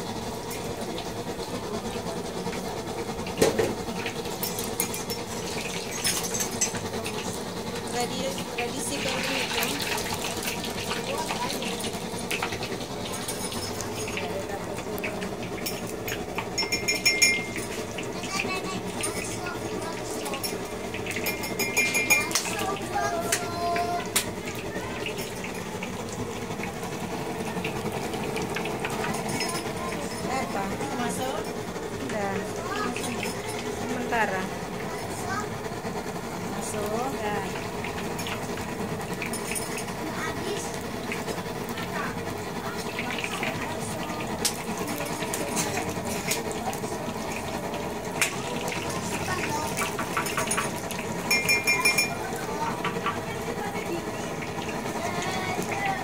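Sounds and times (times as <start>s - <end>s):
batter deep-frying in hot oil: 0.0s - 56.0s.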